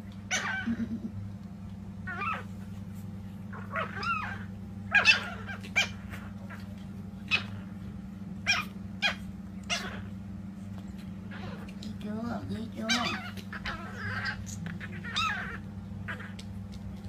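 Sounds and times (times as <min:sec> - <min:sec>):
steady low hum: 0:00.0 - 0:17.0
puppies yipping: 0:00.3 - 0:00.9, 0:02.0 - 0:11.8, 0:12.8 - 0:16.5.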